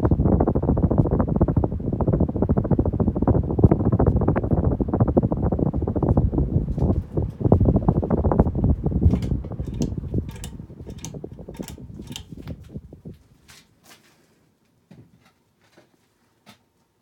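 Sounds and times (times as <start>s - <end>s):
ceiling fan air rush: 0.0s - 13.9s.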